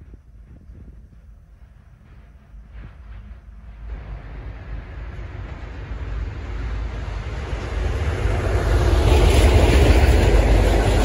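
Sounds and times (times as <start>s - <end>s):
locomotive rushing past: 0.0s - 11.0s
low rail rumble: 0.0s - 11.0s.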